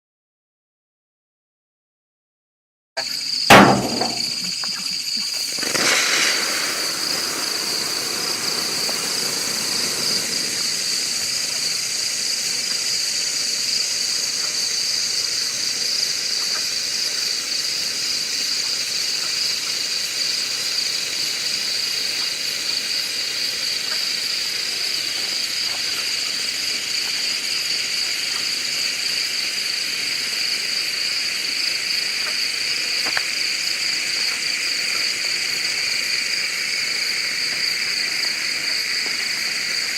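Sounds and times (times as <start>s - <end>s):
hand flare hissing: 3.5s - 39.9s.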